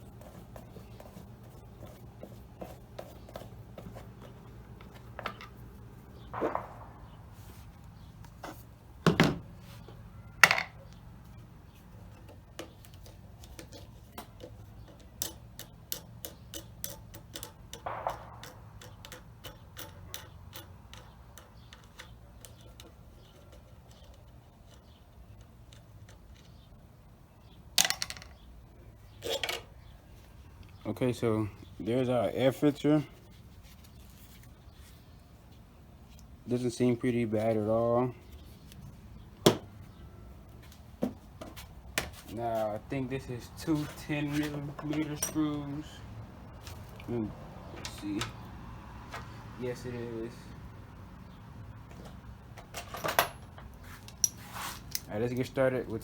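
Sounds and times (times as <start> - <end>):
hands handling engine parts: 0.0 - 26.9, 29.1 - 49.8, 51.8 - 55.6.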